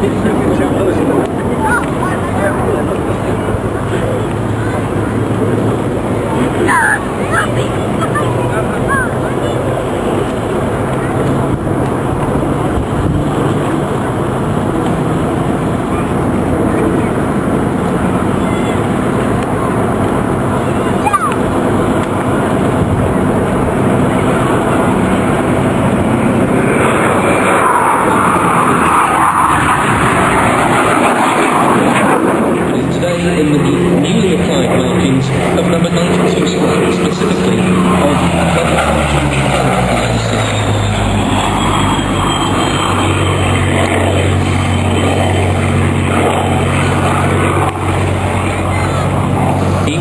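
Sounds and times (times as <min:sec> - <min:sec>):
jet aircraft rushing noise: 0:00.0 - 0:50.0
piston engine aircraft drone: 0:00.0 - 0:50.0.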